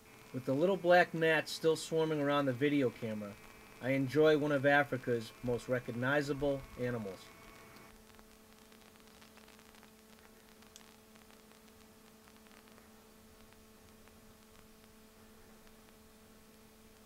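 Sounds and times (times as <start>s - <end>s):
faint steady hum: 0.0s - 17.0s
faint crackling ticks: 2.7s - 4.0s, 4.6s - 17.0s.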